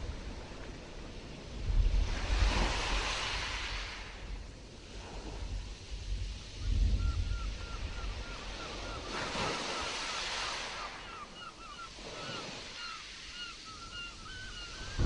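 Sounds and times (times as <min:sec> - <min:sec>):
stormy sea surf: 0:00.0 - 0:15.0
wind: 0:00.0 - 0:15.0.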